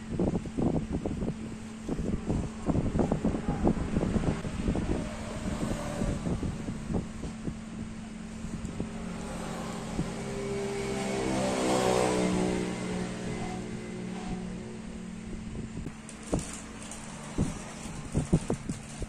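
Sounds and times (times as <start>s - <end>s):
passing vehicle engine hum: 1.8s - 19.0s.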